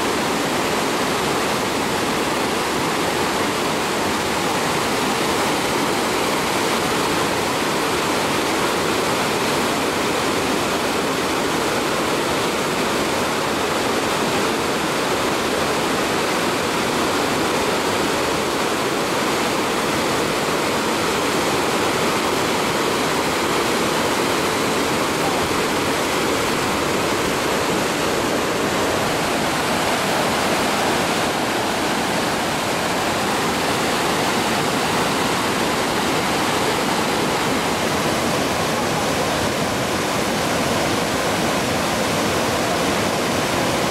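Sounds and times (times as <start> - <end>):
floodwater cascading over a drop: 0.0 - 43.9.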